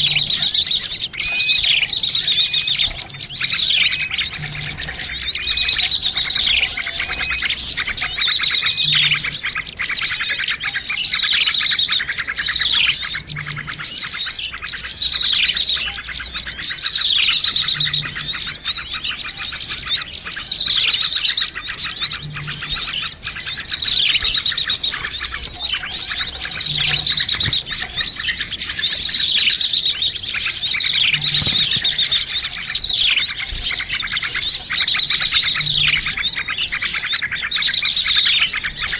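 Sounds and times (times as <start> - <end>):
falling bird call: 0.0 - 38.9
small birds chirping: 0.0 - 38.9.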